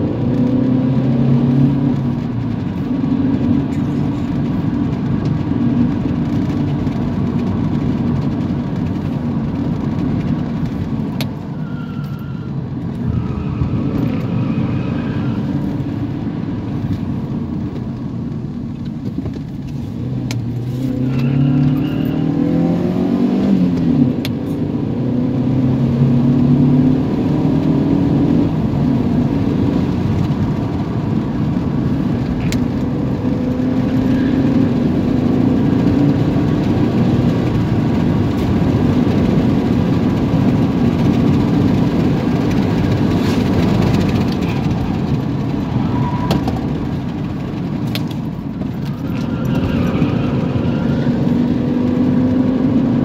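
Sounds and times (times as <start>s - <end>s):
car engine from inside cabin: 0.0s - 53.0s
tyre road noise: 0.0s - 53.0s.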